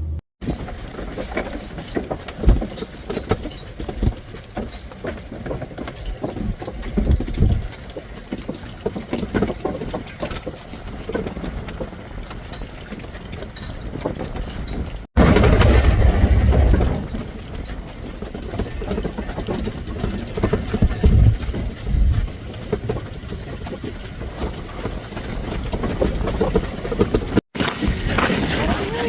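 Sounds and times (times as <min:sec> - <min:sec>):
horse hooves clopping: 0:00.4 - 0:29.0.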